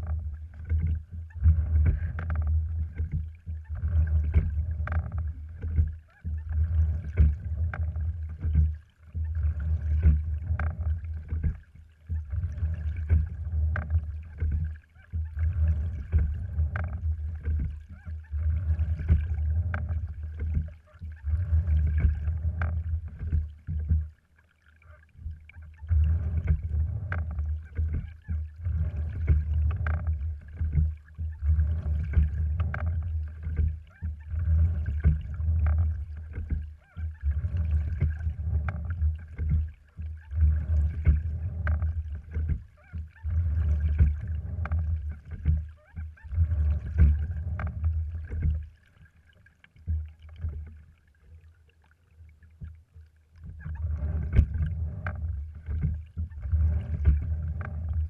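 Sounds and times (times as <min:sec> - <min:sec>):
water washing along boat hull: 0:00.0 - 0:58.0.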